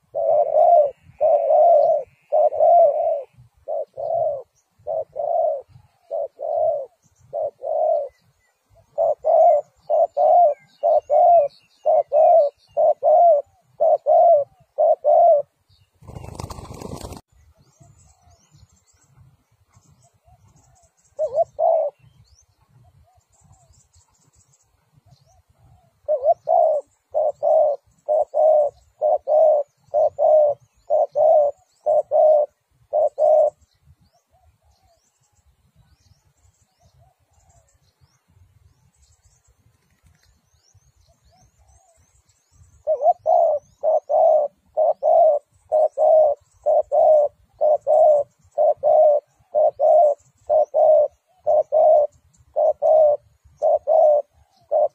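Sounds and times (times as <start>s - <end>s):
dove cooing: 0.0s - 17.2s, 19.8s - 23.8s, 24.8s - 35.1s, 41.1s - 54.9s.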